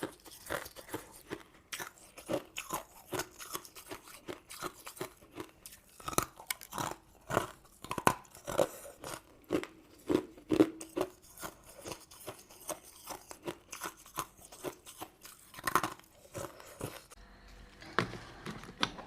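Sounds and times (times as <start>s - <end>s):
chewing crunchy sweet: 0.0s - 17.2s.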